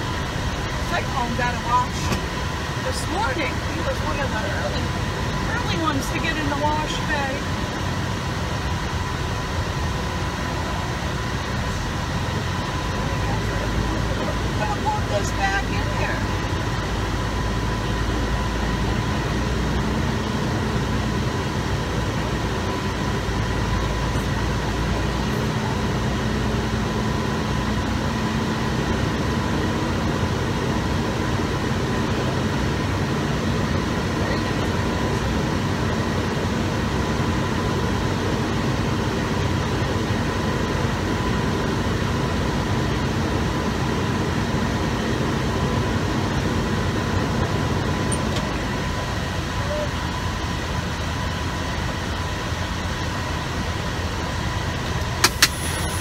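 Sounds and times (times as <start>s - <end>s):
diesel truck engine drone: 0.0s - 56.0s
thin steady whine: 0.0s - 56.0s.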